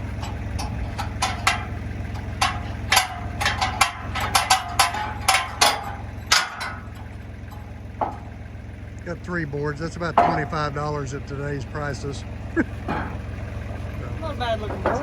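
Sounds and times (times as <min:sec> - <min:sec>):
sawmill engine humming: 0:00.0 - 0:15.0.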